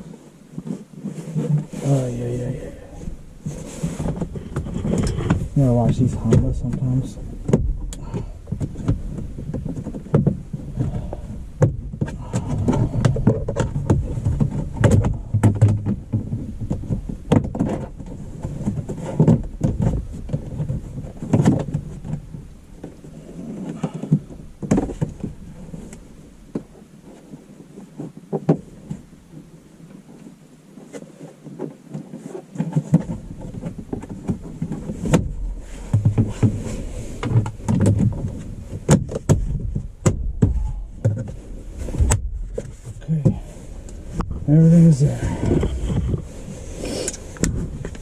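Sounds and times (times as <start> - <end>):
rubbing and handling noise: 0.0 - 48.0.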